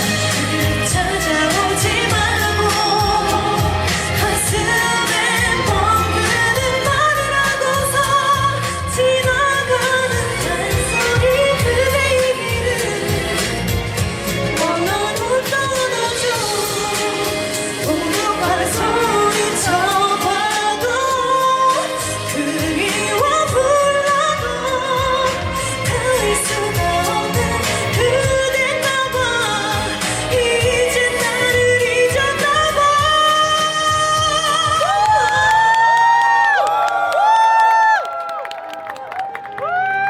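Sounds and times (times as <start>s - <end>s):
backing track: 0.0s - 36.9s
woman singing pop ballad: 0.0s - 37.8s.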